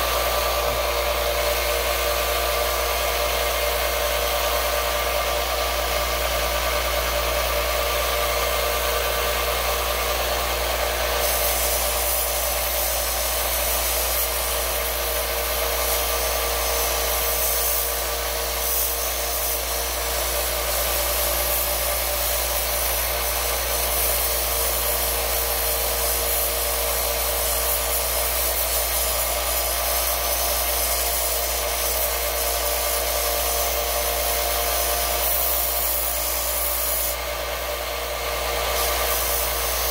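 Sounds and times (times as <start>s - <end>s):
belt sander on wood: 0.0s - 39.9s.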